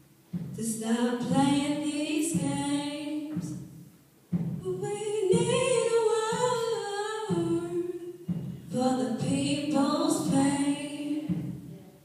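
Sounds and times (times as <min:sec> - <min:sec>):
women singing a cappella: 0:00.6 - 0:03.6, 0:04.6 - 0:11.8.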